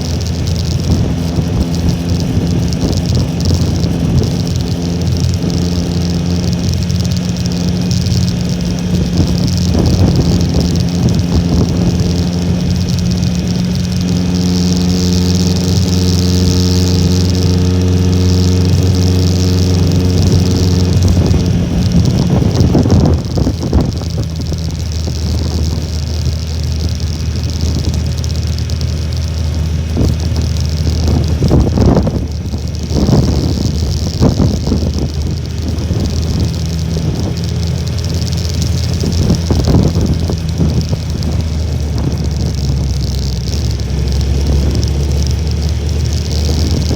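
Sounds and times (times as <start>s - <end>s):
small motorcycle engine running: 0.0s - 46.9s
wind buffeting microphone: 0.0s - 46.9s.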